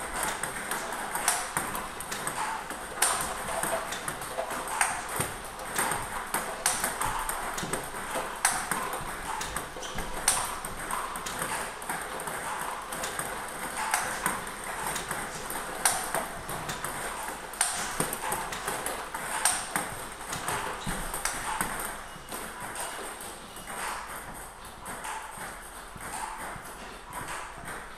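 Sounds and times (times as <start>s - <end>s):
table tennis ball clicks: 0.1s - 27.9s.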